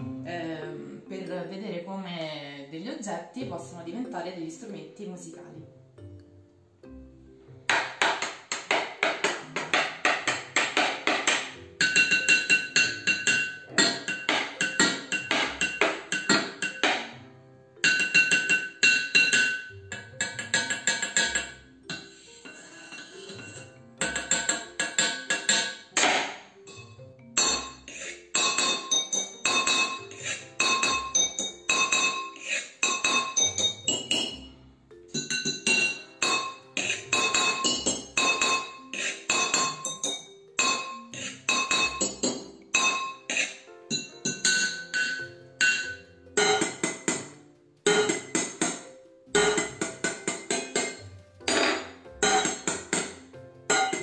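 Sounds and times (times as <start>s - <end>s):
wooden spoons drumming on metal pot: 7.6s - 54.0s.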